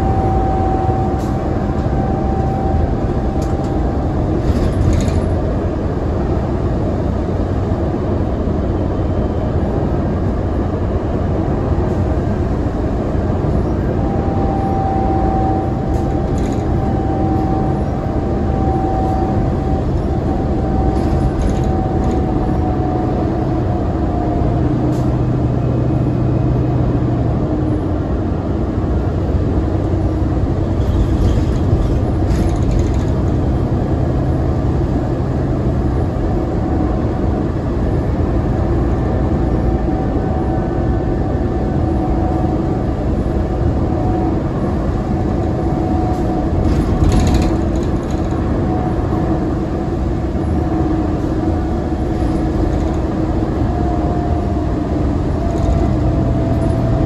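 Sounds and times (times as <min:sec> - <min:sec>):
bus engine running: 0:00.0 - 0:57.0
road and tyre noise: 0:00.0 - 0:57.0.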